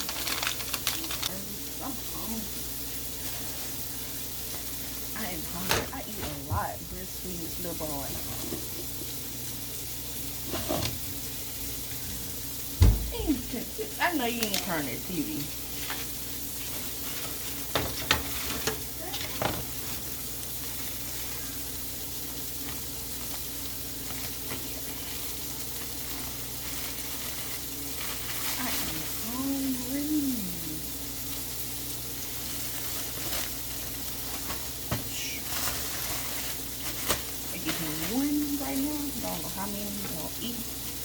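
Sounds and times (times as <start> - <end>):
burger patties sizzling in a pan: 0.0 - 41.0.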